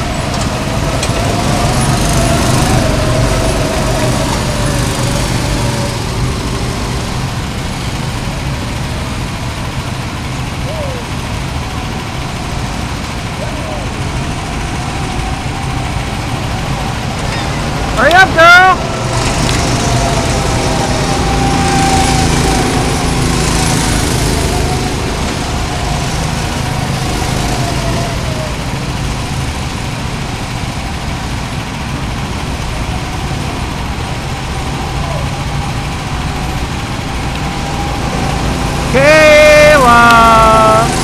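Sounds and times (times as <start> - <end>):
go-kart engine running: 0.0 - 41.0.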